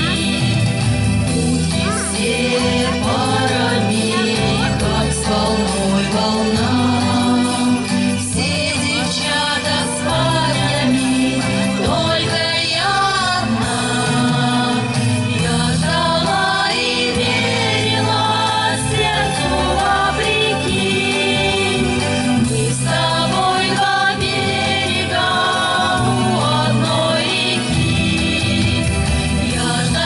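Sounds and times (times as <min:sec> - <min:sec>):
group of voices singing: 0:00.0 - 0:30.0
instrumental accompaniment with bass: 0:00.0 - 0:30.0.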